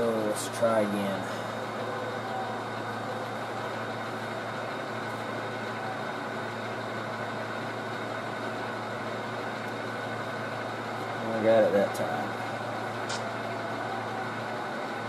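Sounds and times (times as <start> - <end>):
model locomotive diesel engine sound: 0.0 - 15.0.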